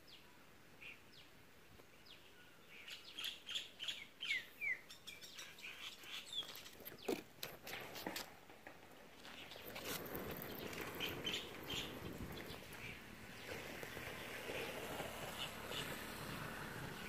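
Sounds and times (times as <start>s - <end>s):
small birds chirping: 0.0s - 7.3s, 9.2s - 17.0s.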